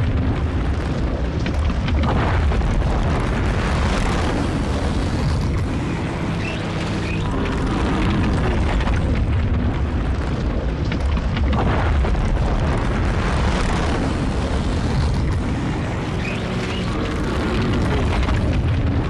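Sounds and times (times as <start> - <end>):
deep rumble: 0.0 - 19.0.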